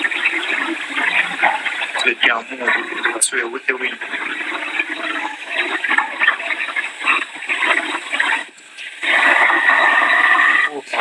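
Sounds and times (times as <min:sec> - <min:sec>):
rain: 0:00.0 - 0:11.0.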